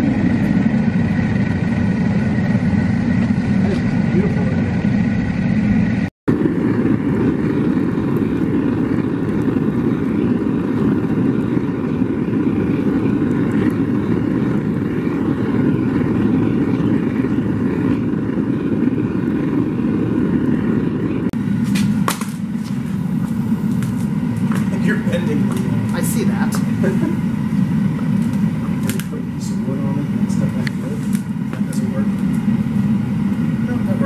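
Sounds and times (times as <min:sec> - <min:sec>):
gas burner roaring: 0:00.0 - 0:34.0.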